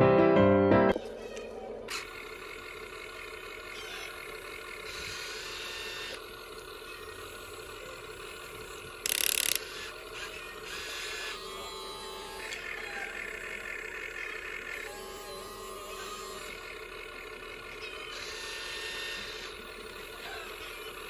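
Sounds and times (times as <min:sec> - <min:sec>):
toy gear motors whirring: 0:01.0 - 0:21.0.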